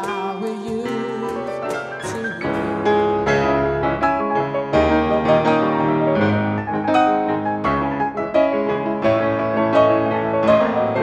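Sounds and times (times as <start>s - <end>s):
grand piano chords: 0.0s - 11.0s.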